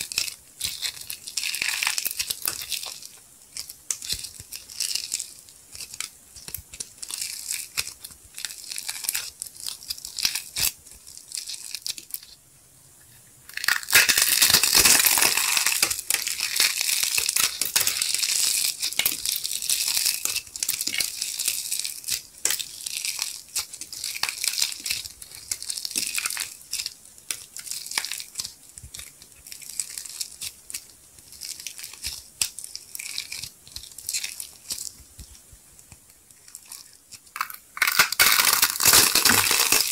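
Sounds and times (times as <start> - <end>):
clay crackling and crunching: 0.0 - 12.4, 13.4 - 39.9.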